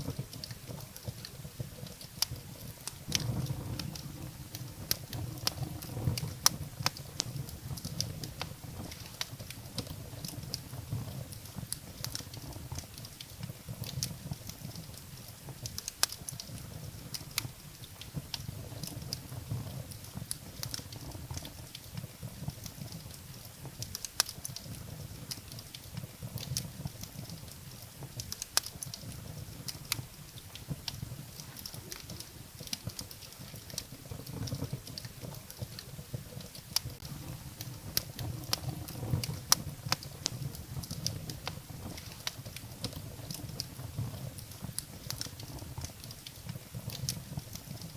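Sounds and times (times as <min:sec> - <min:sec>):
low rumble of flame: 0:00.0 - 0:47.9
wood fire crackling: 0:00.0 - 0:47.9.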